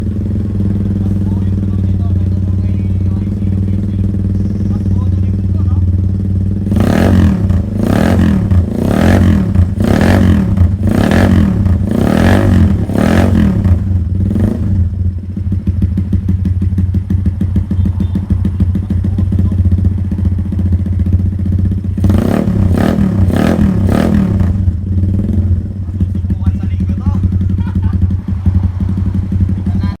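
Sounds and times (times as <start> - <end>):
motorcycle engine revving and idling: 0.0 - 30.0.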